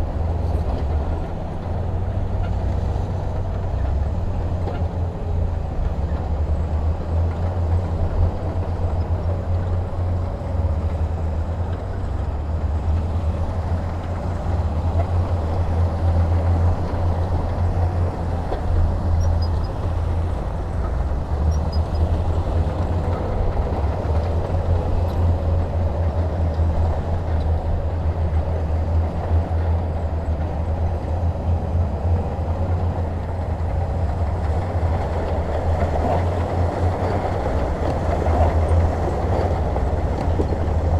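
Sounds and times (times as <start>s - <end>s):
heavy diesel machinery rumbling: 0.0s - 40.9s.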